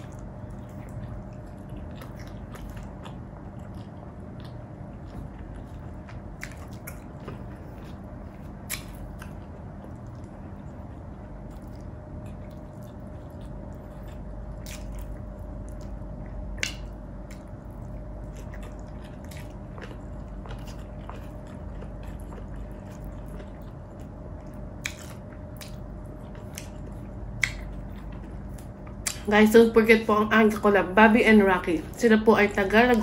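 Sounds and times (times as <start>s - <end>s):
person chewing food: 0.0s - 29.3s
steady low hum: 0.0s - 33.0s.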